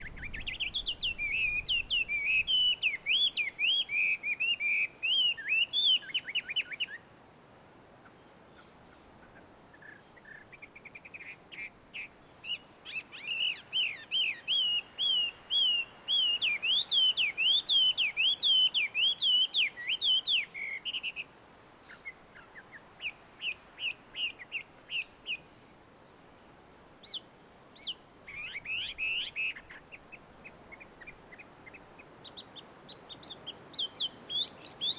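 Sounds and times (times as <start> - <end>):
bird singing whistled notes: 0.0 - 7.0, 9.8 - 27.2, 27.8 - 34.9.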